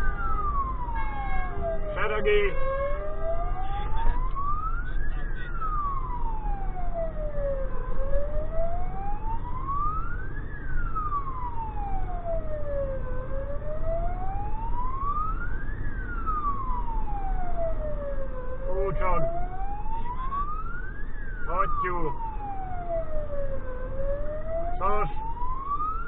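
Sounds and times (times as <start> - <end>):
siren wailing: 0.0 - 26.0
truck engine rumble: 0.0 - 26.0.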